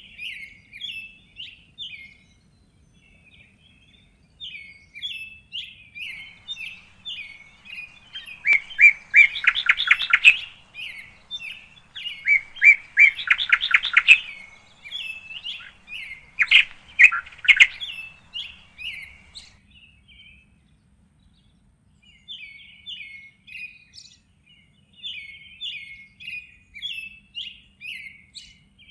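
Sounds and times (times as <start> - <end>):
small songbirds chirping: 0.0 - 28.9.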